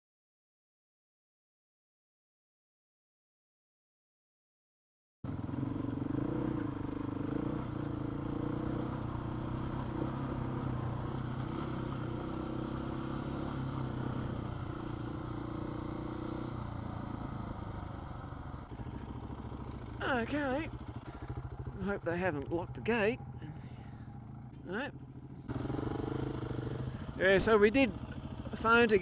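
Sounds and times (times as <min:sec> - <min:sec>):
motorcycle engine running steadily: 0:05.3 - 0:29.0.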